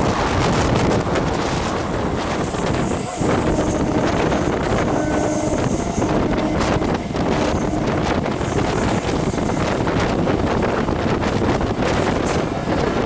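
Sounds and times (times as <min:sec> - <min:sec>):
electric train running: 0:00.0 - 0:13.0
wind buffeting microphone: 0:00.0 - 0:13.0.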